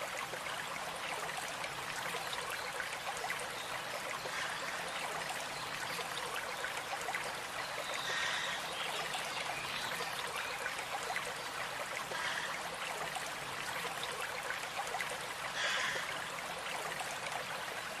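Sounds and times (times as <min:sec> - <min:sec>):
stream babbling over stones: 0:00.0 - 0:18.0.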